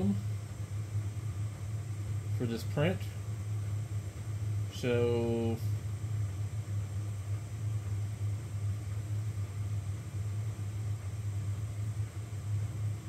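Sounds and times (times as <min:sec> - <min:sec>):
cooling fans whirring: 0:00.0 - 0:13.0.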